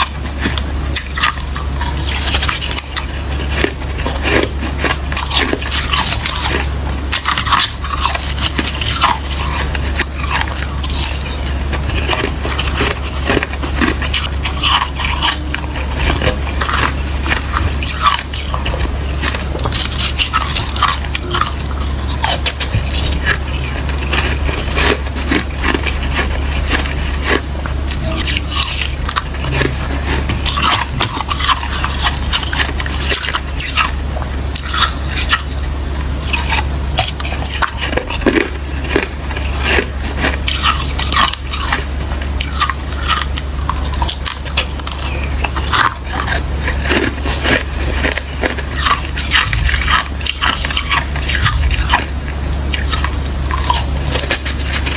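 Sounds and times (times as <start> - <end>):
chewing slushy ice: 0.0 - 54.9.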